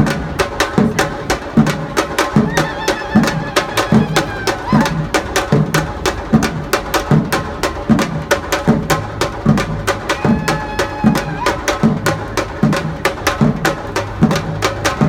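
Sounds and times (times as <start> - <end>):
drum band playing: 0.0 - 15.0.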